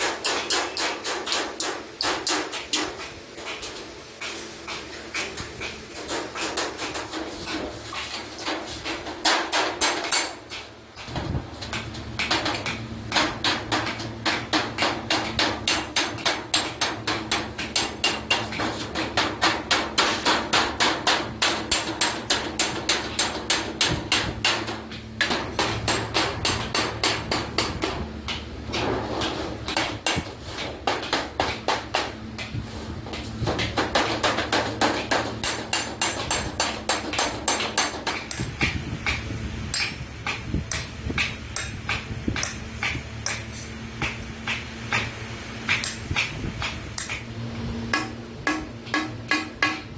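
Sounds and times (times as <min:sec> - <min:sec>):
hammer striking sheet iron: 0:00.0 - 0:47.3, 0:47.9 - 0:49.9.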